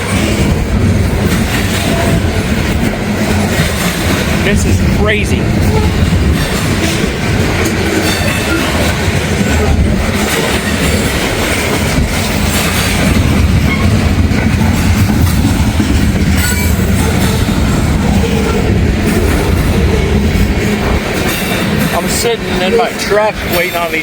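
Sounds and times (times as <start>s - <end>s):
wind buffeting microphone: 0.0s - 23.6s
freight train rumbling on rails: 0.0s - 24.0s.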